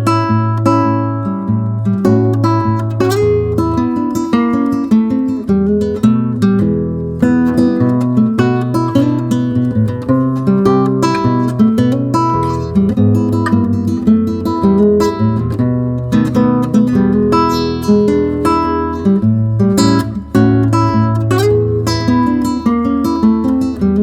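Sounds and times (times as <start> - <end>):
acoustic guitar playing chords: 0.0 - 24.0.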